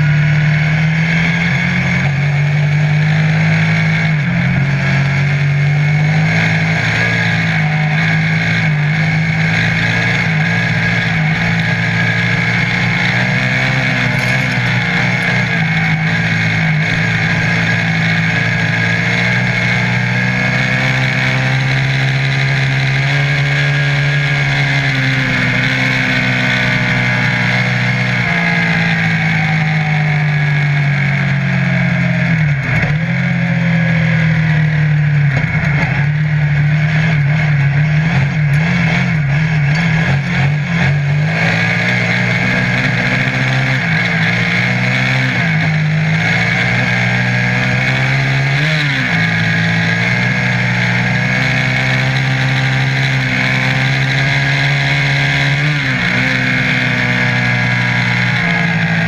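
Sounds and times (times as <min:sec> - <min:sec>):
buggy engine running hard: 0:00.0 - 0:59.0.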